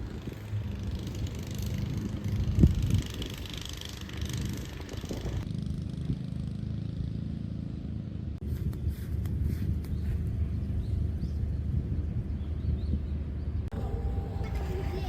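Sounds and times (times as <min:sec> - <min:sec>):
vehicle rumbling while moving: 0:00.0 - 0:15.0.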